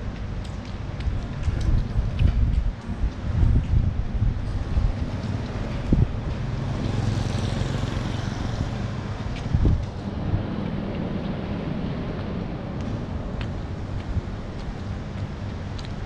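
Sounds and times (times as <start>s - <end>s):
traffic on wet road: 0.0s - 16.0s
wind on microphone: 0.9s - 15.0s.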